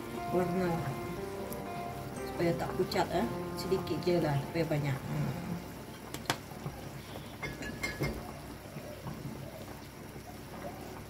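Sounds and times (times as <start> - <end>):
soup bubbling in pot: 0.0 - 11.0.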